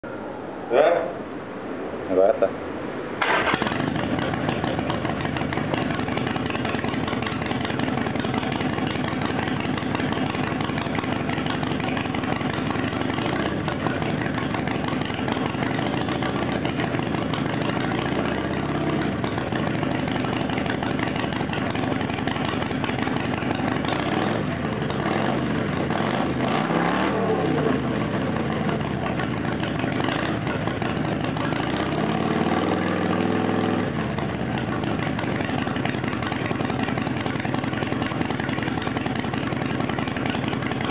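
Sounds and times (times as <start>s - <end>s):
motorcycle engine idling and revving: 3.2s - 40.9s.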